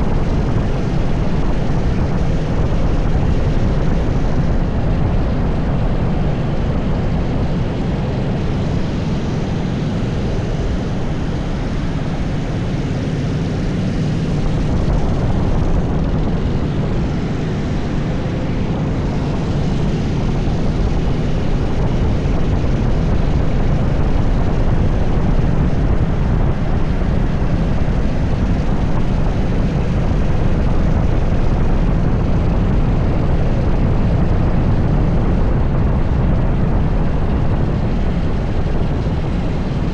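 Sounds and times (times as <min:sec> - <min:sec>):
kart engine running hard: 0:00.0 - 0:39.9
wind rushing over microphone: 0:00.0 - 0:39.9.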